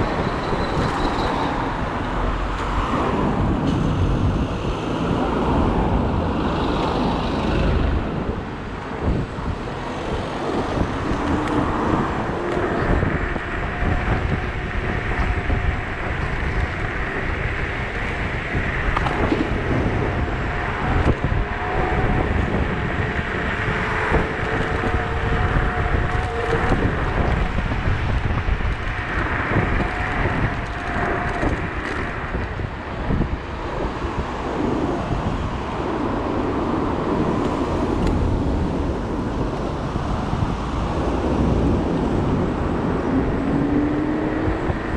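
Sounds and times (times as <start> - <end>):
road noise: 0.0 - 44.9
wind rushing over microphone: 0.0 - 44.9.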